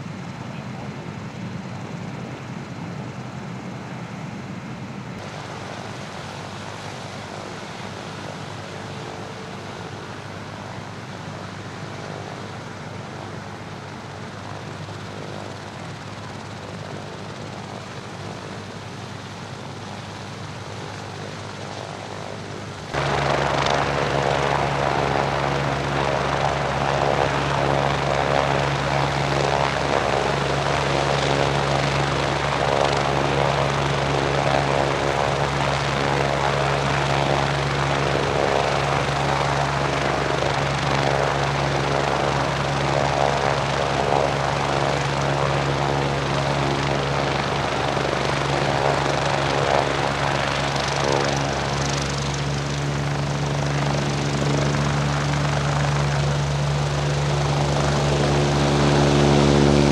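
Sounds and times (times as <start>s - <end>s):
helicopter turbine whine and rotor hum: 0.0s - 59.9s.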